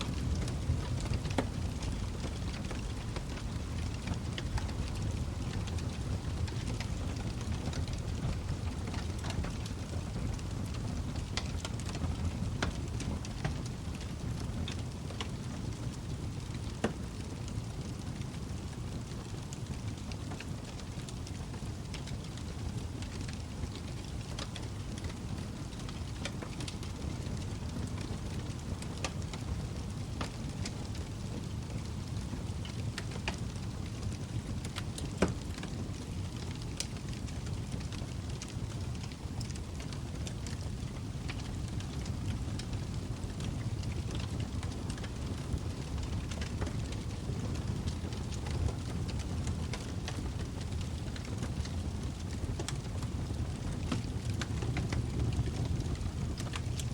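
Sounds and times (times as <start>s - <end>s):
fire crackling and popping: 0.0s - 56.9s
fire low rumble: 0.0s - 56.9s.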